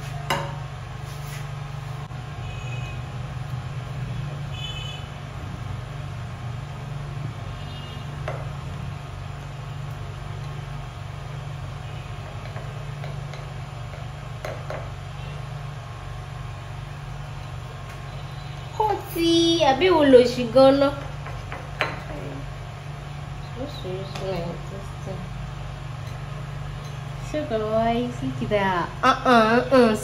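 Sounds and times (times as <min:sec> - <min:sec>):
low background hum: 0:00.0 - 0:30.0.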